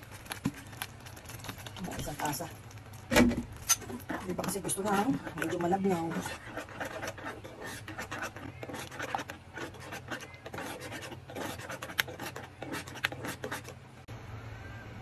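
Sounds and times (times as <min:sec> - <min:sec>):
metal spoon stirring thick sauce: 0:00.0 - 0:02.6, 0:03.6 - 0:13.8.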